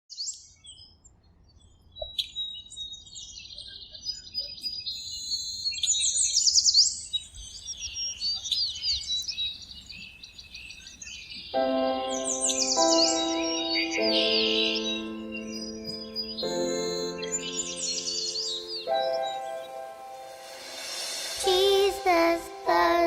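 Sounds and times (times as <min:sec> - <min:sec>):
songbirds chirping and trilling: 0:00.1 - 0:23.0.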